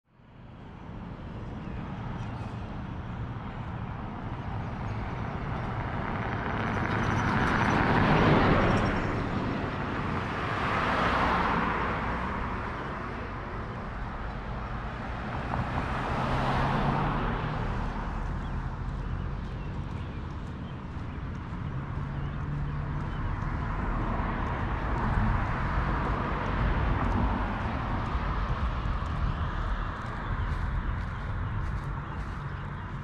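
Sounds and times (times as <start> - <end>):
vehicles passing by: 0.2 - 33.0.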